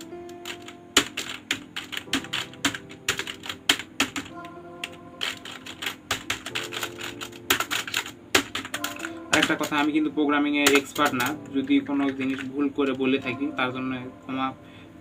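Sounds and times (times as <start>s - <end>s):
keyboard typing: 0.0s - 13.4s.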